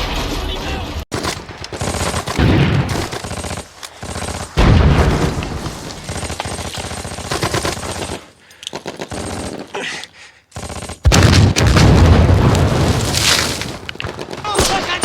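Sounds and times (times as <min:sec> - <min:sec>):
machine-gun fire bursts: 0:01.1 - 0:15.0.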